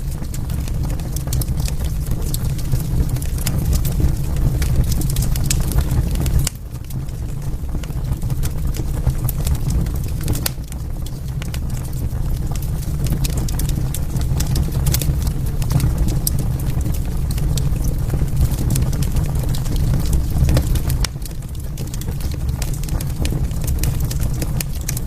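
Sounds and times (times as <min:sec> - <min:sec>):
low rumble of burning logs: 0:00.0 - 0:25.0
wood fire crackling: 0:00.0 - 0:25.0.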